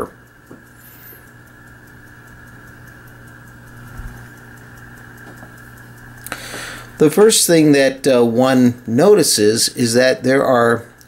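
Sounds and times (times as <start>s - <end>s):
clockwork ticking: 0.0s - 11.0s
low steady hum: 0.0s - 11.0s.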